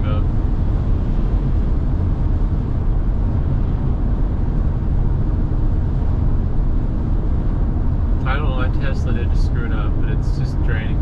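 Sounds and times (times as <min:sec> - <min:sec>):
road and wind noise in car: 0:00.0 - 0:11.0.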